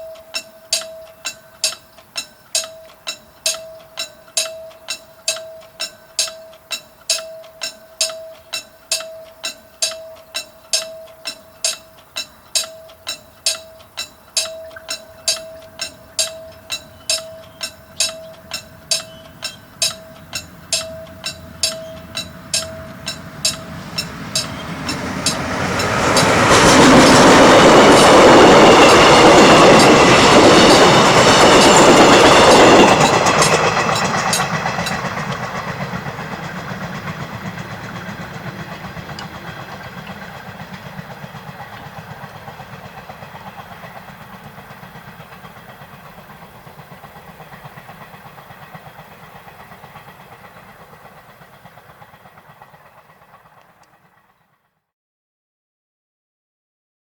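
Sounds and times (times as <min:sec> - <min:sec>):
train wheels clacking on rails: 0:00.0 - 0:54.6
train passing: 0:00.0 - 0:54.8.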